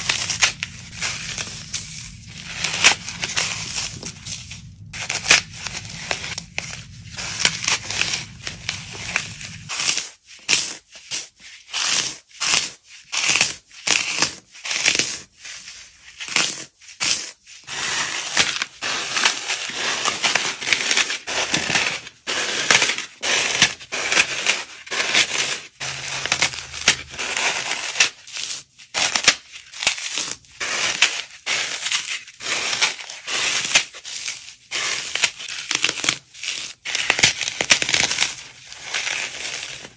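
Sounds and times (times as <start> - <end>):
floral foam crunching: 0.0 - 10.8, 17.8 - 39.9.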